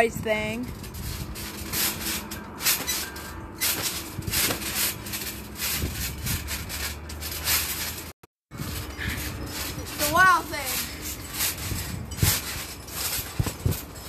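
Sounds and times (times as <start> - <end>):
trampoline bounce thuds: 0.0 - 14.0
steady rustling hiss: 0.7 - 14.0.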